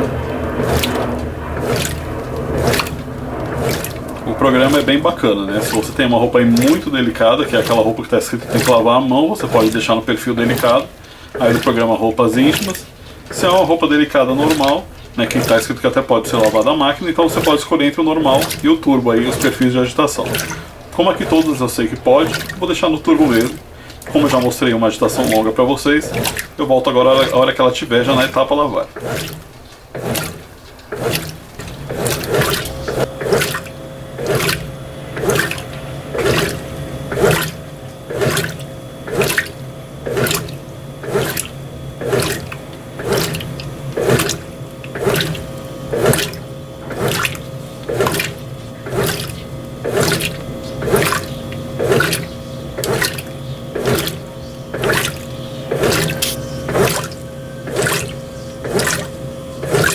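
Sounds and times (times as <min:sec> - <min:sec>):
motor hum: 0:00.0 - 0:59.9
washing machine agitator sloshing: 0:00.0 - 0:59.9.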